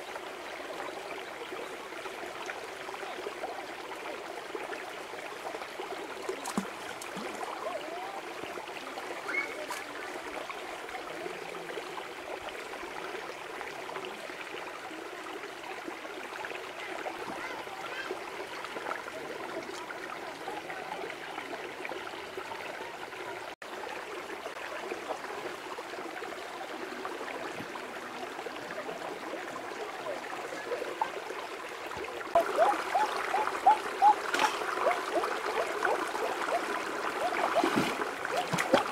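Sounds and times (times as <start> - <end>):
water gurgling over rocks: 0.0 - 38.9.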